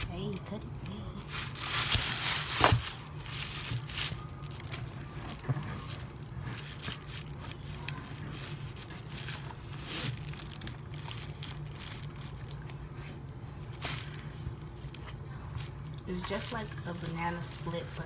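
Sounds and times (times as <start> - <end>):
plastic bag rustling: 0.0 - 18.0
steady low hum: 0.0 - 18.0.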